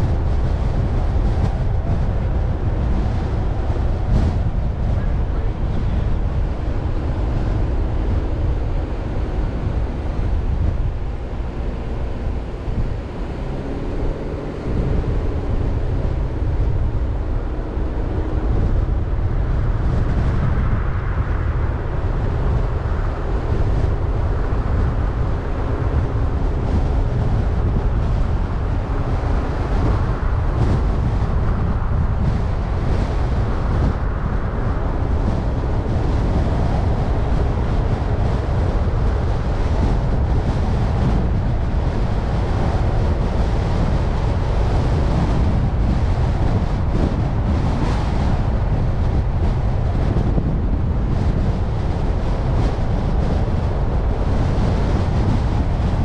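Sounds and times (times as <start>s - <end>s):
car road rumble: 0.0s - 56.0s
wind buffeting microphone: 0.0s - 56.0s.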